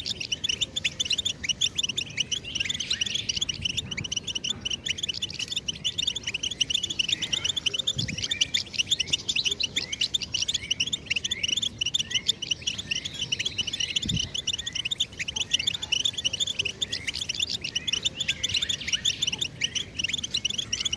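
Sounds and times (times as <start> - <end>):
goldfinch twittering song: 0.0 - 20.9.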